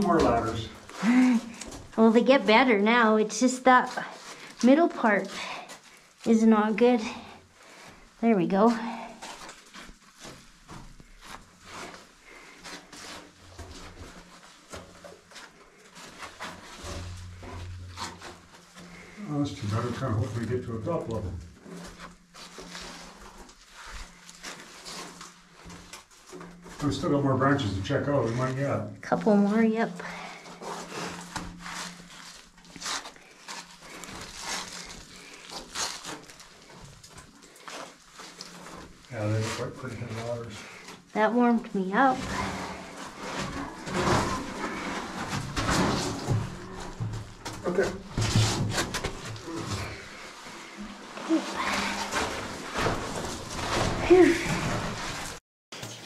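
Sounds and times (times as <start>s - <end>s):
clothing and gear rustling: 2.9s - 27.1s, 28.2s - 55.4s.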